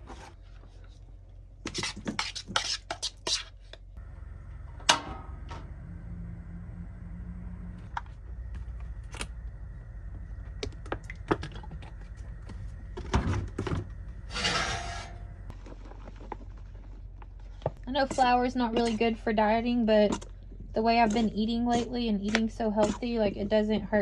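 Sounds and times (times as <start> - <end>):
low steady hum: 3.6 - 24.0.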